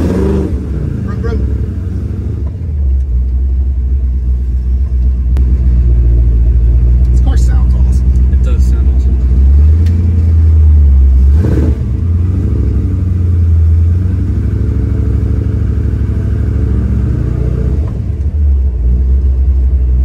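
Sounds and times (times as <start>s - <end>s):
car engine under load: 0.0s - 20.0s.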